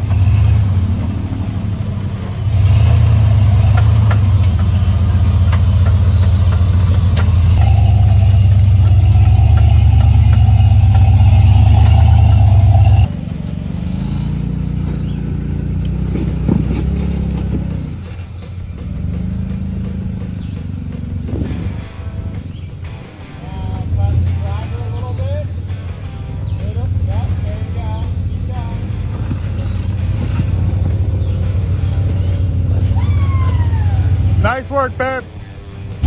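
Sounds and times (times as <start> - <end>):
off-road engines crawling: 0.0 - 36.0.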